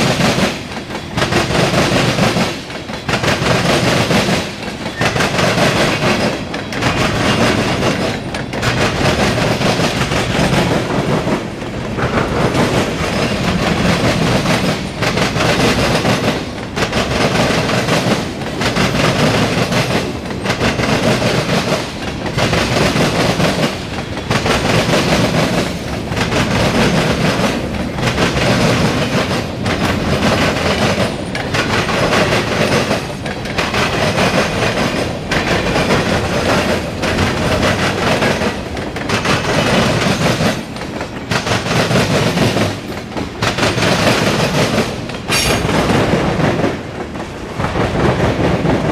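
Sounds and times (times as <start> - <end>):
train wheels clacking over rail joints: 0.0 - 48.9.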